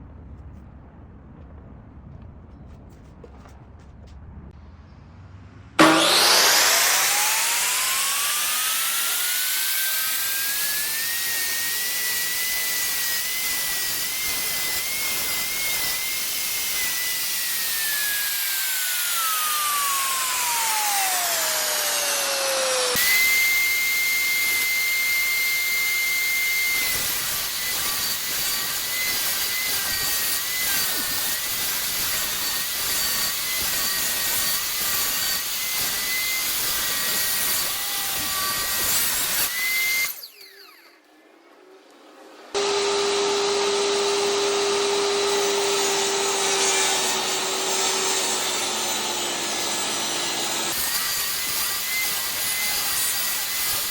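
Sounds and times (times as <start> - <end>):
power tool whining: 5.8 - 41.1, 42.6 - 53.9.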